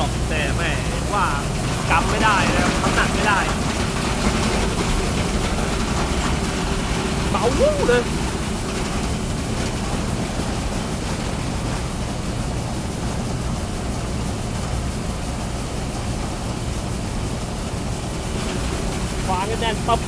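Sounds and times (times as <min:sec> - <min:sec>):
combine harvester engine drone: 0:00.0 - 0:20.0
machine rushing noise: 0:00.0 - 0:20.0.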